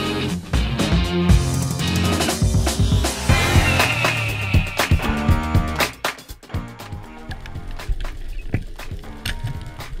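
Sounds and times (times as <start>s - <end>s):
guitar-led music with steady beat: 0.0s - 10.0s.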